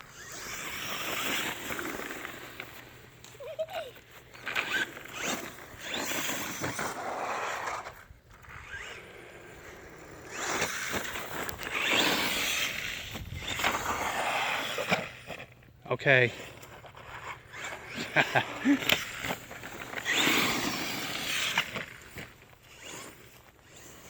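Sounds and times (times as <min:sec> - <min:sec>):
rc truck motor whirring: 0:00.0 - 0:24.0.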